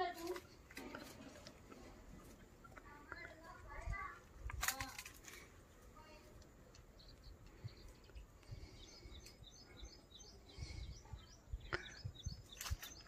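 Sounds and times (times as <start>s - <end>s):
faint bird chirping: 0.0s - 13.0s
outdoor background noise: 0.0s - 13.0s.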